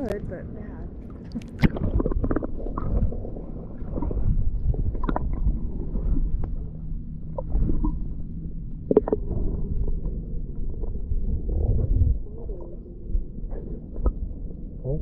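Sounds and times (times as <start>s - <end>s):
underwater water rumble: 0.0s - 15.0s.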